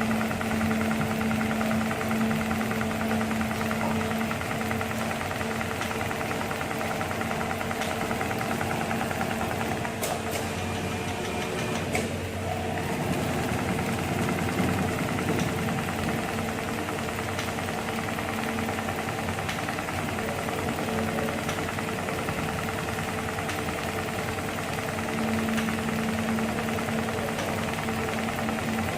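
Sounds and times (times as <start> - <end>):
sewing machine running: 0.0 - 28.9.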